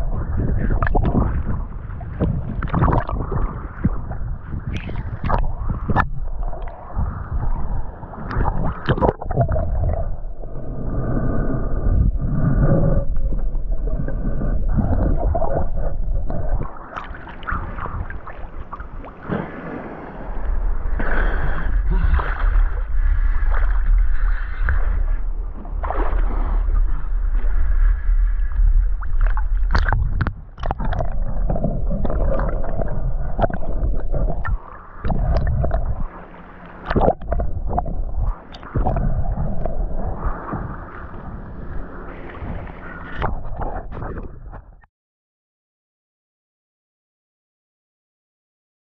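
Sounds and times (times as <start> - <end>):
low rumble: 0.0 - 44.9
underwater sloshing and gurgling: 0.0 - 44.9.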